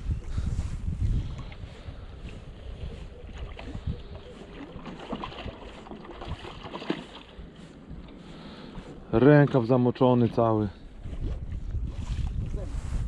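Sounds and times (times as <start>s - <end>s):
water around boat: 0.0s - 13.0s
wind rumbling on microphone: 0.0s - 13.0s.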